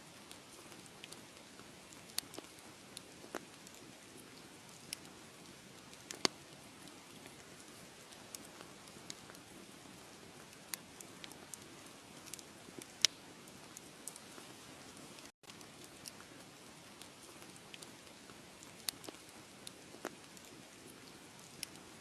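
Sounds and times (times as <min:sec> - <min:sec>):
soft hiss: 0:00.0 - 0:22.0
wood fire crackling and popping: 0:00.2 - 0:22.0.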